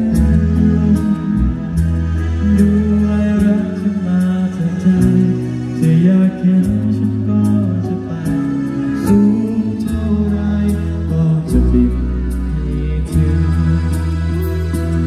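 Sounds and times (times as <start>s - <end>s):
bass line: 0.0s - 15.0s
live band music: 0.0s - 15.0s
man singing into a microphone: 0.0s - 15.0s.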